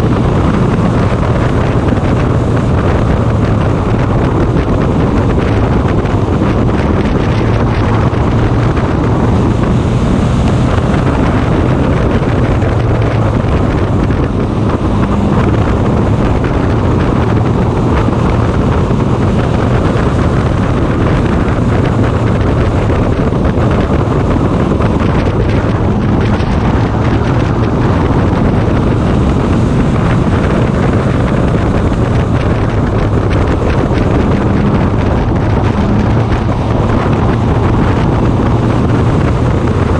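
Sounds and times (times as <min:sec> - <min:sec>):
race car engine running hard: 0:00.0 - 0:39.9
wind buffeting microphone: 0:00.0 - 0:39.9.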